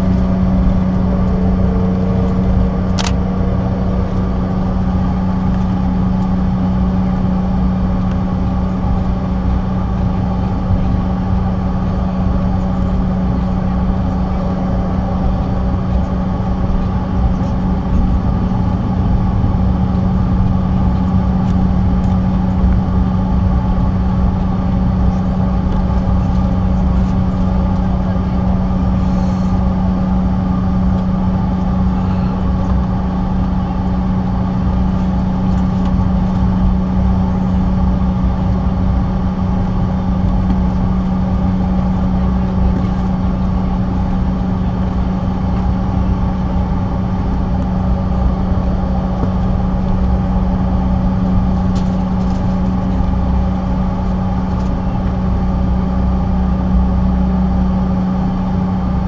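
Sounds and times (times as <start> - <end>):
jet engines idling drone: 0.0 - 59.0.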